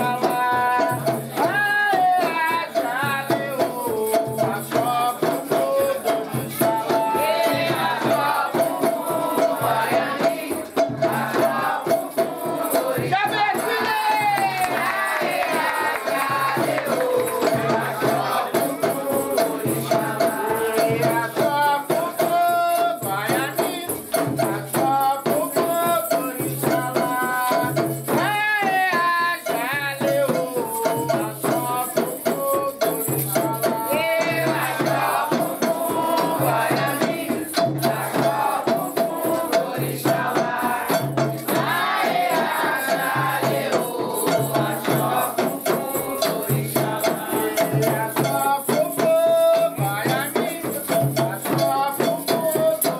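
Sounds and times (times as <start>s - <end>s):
people singing: 0.0s - 52.9s
shaken rattle: 0.0s - 52.9s
steady low drum beat: 0.0s - 52.9s.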